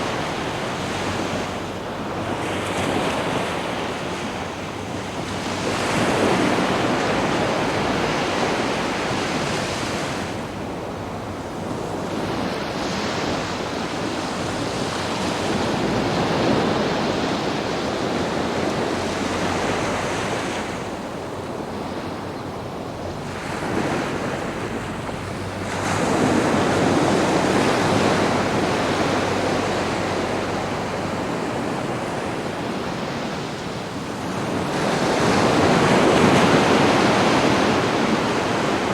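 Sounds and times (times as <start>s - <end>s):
sea waves breaking on beach: 0.0s - 38.9s.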